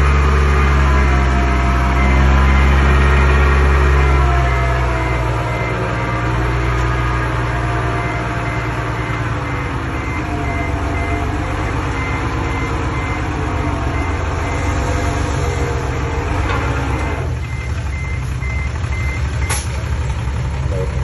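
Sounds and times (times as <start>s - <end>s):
reversing alarm beeping: 0.0s - 16.0s, 17.0s - 19.7s
bulldozer diesel engine running: 0.0s - 21.0s.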